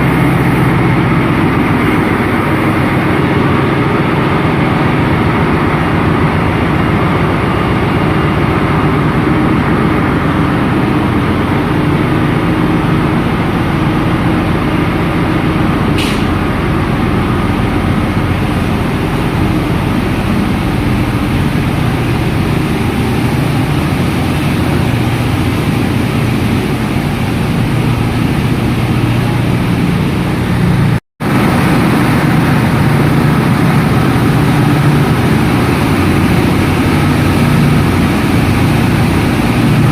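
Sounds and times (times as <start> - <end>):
engine-room machinery drone: 0.0 - 39.9.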